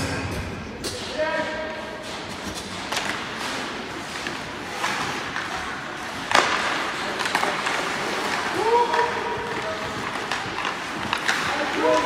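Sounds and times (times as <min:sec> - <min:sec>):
hockey sticks and puck clacking: 0:00.0 - 0:12.0.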